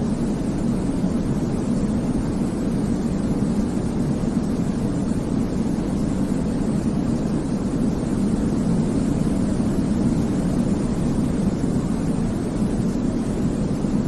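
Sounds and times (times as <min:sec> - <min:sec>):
deep rushing white noise: 0:00.0 - 0:14.0.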